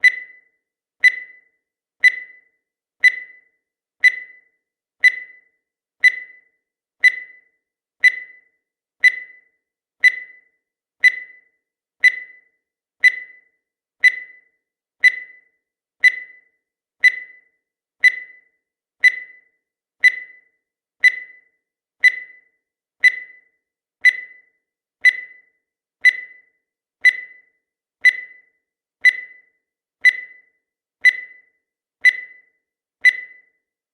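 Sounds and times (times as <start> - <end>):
high-pitched timer ticks: 0.0 - 33.8.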